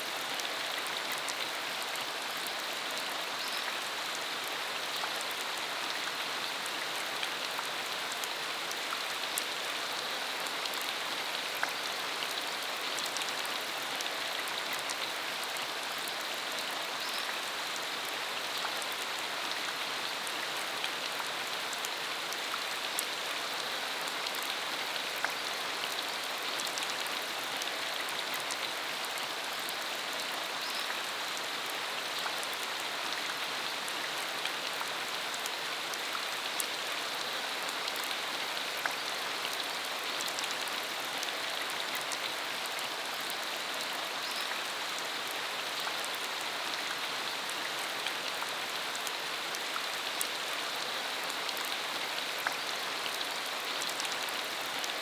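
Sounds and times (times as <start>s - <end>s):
rain on a dirt road: 0.0s - 55.0s.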